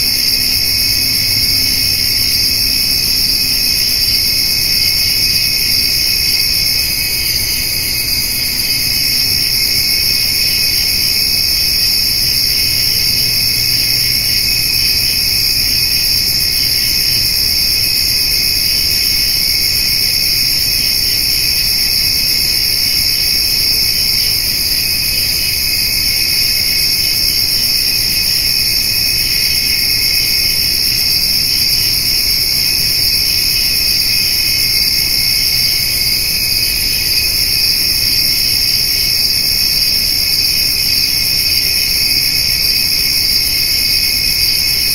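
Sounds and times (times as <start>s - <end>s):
crickets and grasshoppers trilling: 0.0s - 44.9s.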